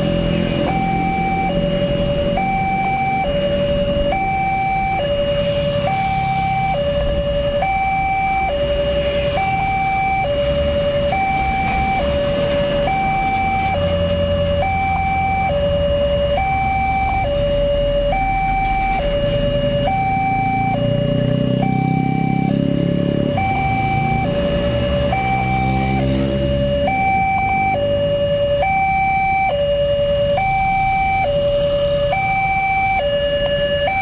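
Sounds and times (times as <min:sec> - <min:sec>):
level crossing two-tone alarm: 0:00.0 - 0:34.0.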